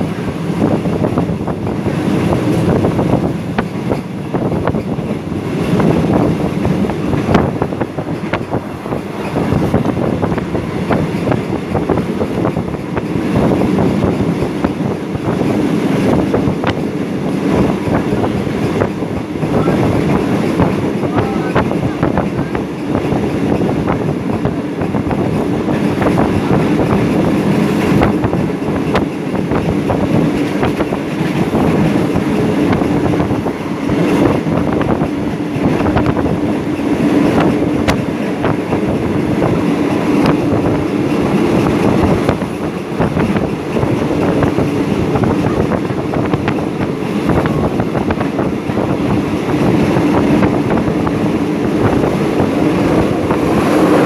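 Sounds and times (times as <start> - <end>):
rushing air: 0.0 - 54.0
train wheels rumbling on rails: 0.0 - 54.0.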